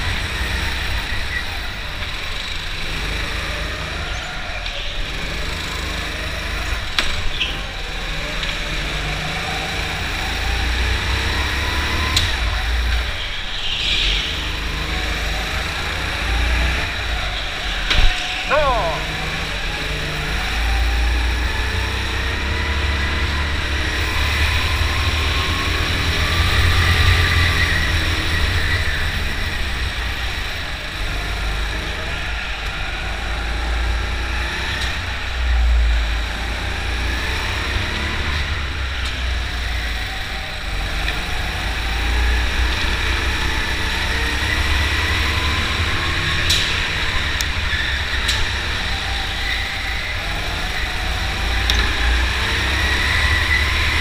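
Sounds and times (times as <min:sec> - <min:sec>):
go-kart motor revving: 0:00.0 - 0:54.0.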